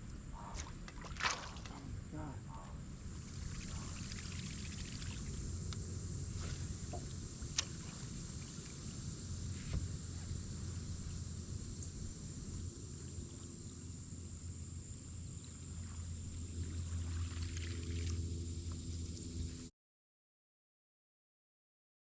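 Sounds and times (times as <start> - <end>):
boat motor humming: 0.0 - 19.7.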